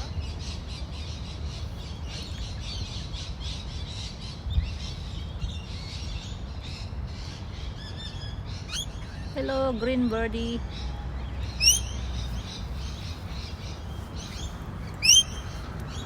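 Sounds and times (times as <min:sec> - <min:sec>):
birds chattering and squawking: 0:00.0 - 0:16.0
steady low rumble: 0:00.0 - 0:16.0.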